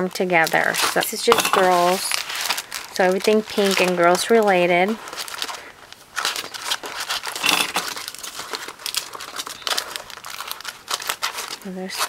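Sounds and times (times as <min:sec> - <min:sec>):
plastic packs crinkling: 0:00.0 - 0:12.0.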